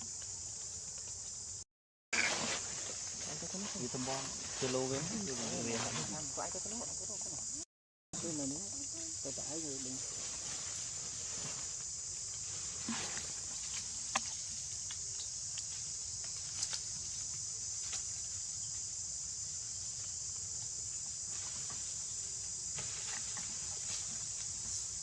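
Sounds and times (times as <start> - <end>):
insect chorus drone: 0.0 - 1.6, 2.2 - 7.6, 8.2 - 25.0.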